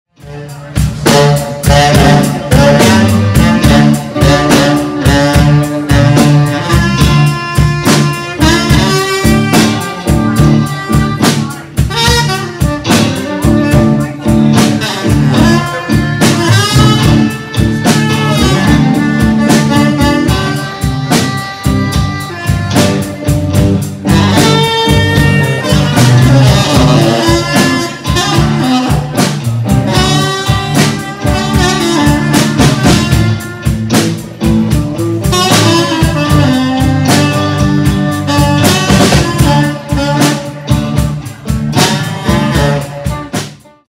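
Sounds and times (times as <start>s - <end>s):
low accompaniment: 0.2s - 43.9s
saxophone bluesy melody: 0.2s - 43.9s.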